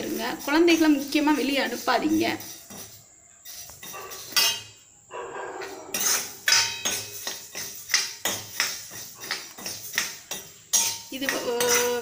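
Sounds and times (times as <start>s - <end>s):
steel ladle scraping seeds in pan: 0.0s - 4.9s, 5.6s - 12.0s.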